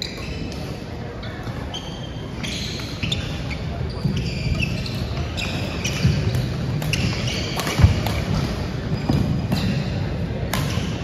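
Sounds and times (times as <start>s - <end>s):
shoes squeaking: 0.0s - 10.0s.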